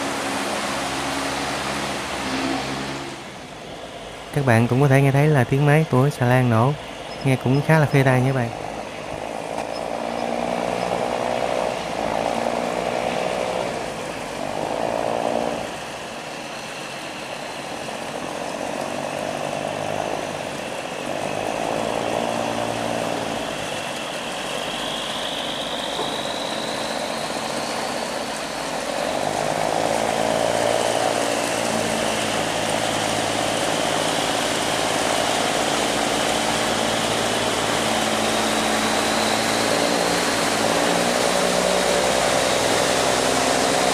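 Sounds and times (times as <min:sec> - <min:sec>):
barge engine running: 0:00.0 - 0:43.9
high whine: 0:00.0 - 0:43.9.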